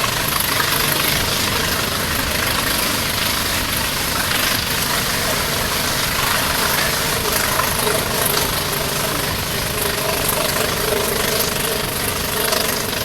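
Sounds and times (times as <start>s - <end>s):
diesel locomotive engine running: 0.0s - 13.0s
rail and carriage noise: 0.0s - 13.0s.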